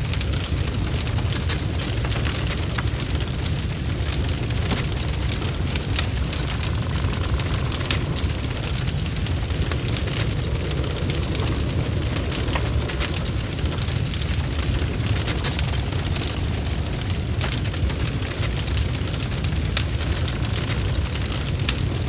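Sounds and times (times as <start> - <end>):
fire crackling and popping: 0.0 - 22.0
wood fire roaring: 0.0 - 22.0.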